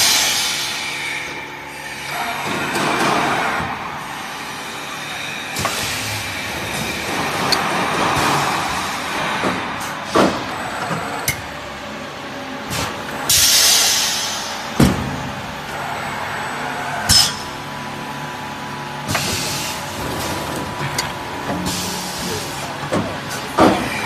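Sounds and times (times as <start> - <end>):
packaging machine running: 0.0 - 24.0.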